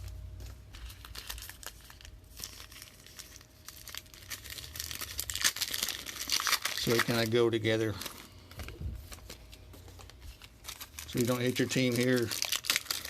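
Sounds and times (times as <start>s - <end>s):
wrappers crinkling and tearing: 0.0s - 13.0s.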